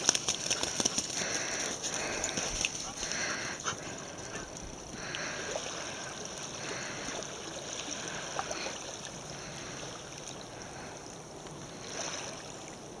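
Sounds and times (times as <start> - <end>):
small waves lapping on sand: 0.0 - 13.0.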